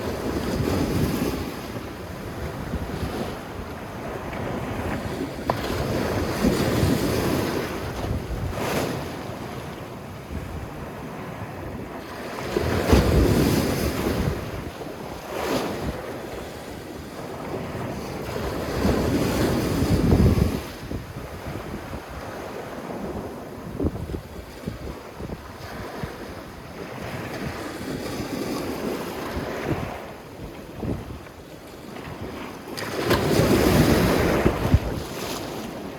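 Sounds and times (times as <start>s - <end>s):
sea waves breaking on beach: 0.0s - 35.9s.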